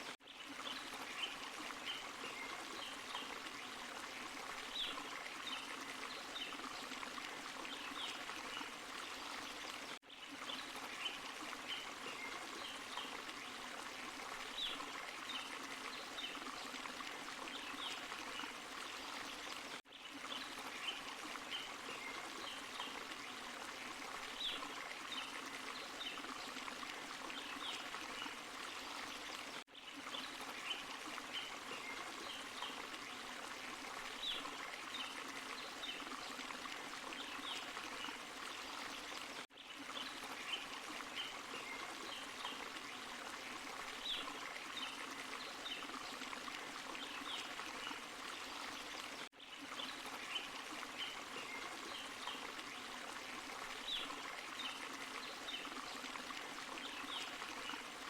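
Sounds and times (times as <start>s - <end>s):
waterfall and stream over rocks: 0.0s - 58.0s.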